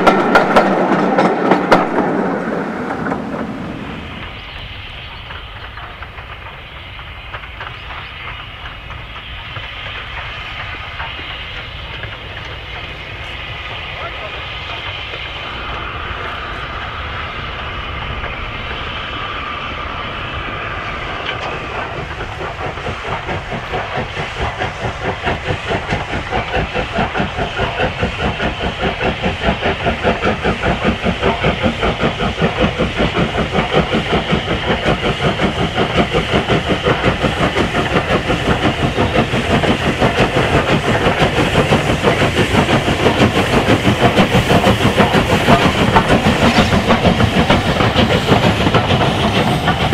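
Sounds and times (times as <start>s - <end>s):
steam locomotive exhaust beats: 0.0s - 49.9s.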